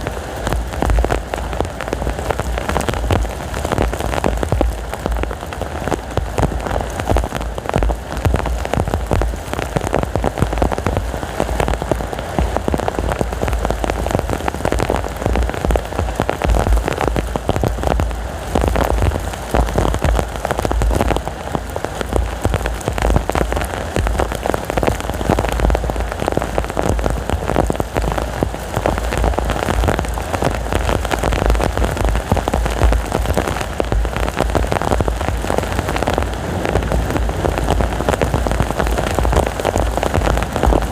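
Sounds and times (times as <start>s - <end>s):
heavy rain falling: 0.0s - 40.9s
strong gusting wind: 0.0s - 40.9s.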